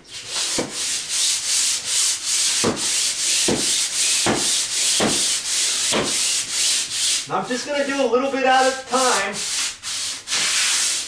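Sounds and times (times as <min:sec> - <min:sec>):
sandpaper rasping on drywall: 0:00.1 - 0:11.0.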